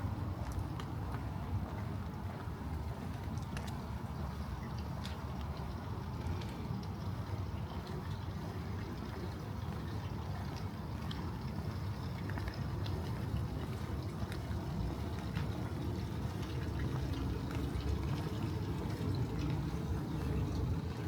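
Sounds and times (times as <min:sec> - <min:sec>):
water running and trickling: 0:02.9 - 0:21.0.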